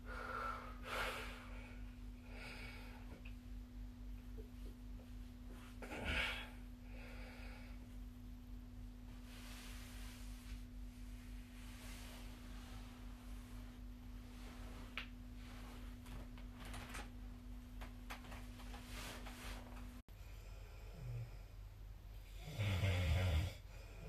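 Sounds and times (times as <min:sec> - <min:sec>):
soft hiss: 0:00.0 - 0:20.0
faint steady hum: 0:00.0 - 0:24.0.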